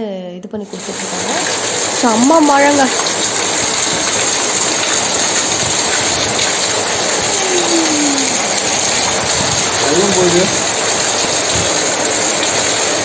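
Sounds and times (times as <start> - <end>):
heavy rain on pavement: 0.7 - 13.0.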